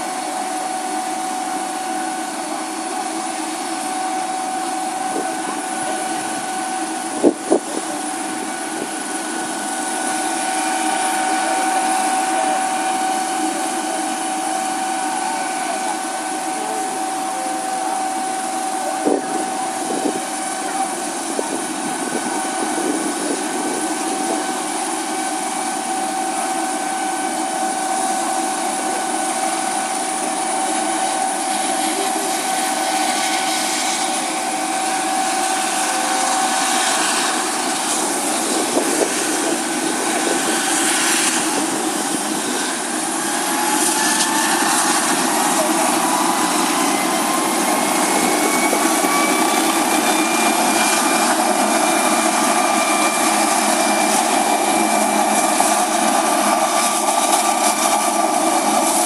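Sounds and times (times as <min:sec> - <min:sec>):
helicopter rotor noise: 0:00.0 - 0:59.0
helicopter turbine whine: 0:00.0 - 0:59.0.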